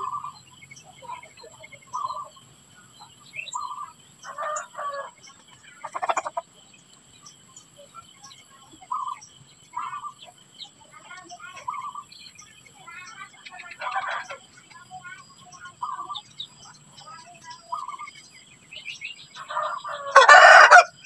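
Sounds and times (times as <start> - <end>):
birds calling: 0.0 - 21.0.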